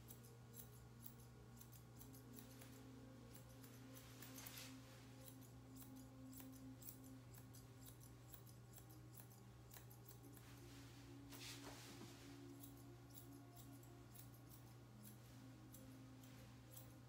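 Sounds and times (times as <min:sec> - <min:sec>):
low steady hum: 0:00.0 - 0:17.0
scissors snipping hair: 0:00.0 - 0:17.0.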